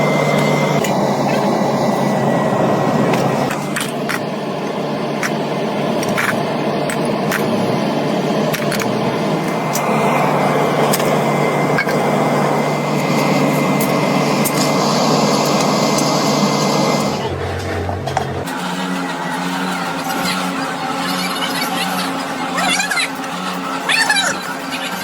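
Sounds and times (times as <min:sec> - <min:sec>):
machinery humming: 0:00.0 - 0:25.0.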